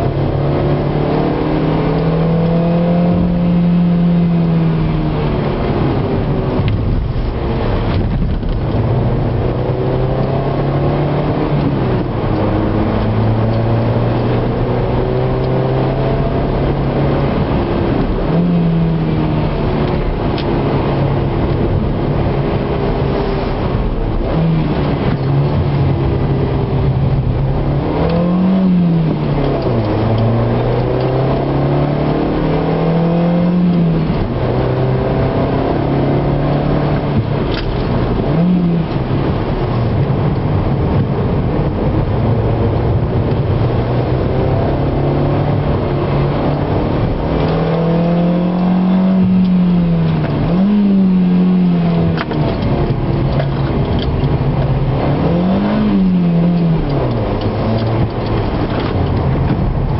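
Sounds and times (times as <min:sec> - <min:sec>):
car engine accelerating: 0:00.0 - 0:59.9
road and tyre noise: 0:00.0 - 0:59.9.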